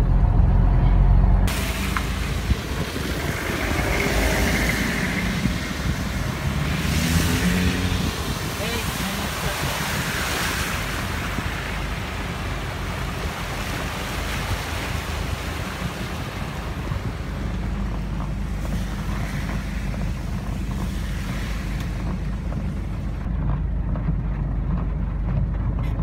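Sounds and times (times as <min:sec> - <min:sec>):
low road rumble: 0:00.0 - 0:26.0
truck rushing through water: 0:01.2 - 0:23.3
tyres swishing through water: 0:01.5 - 0:25.9.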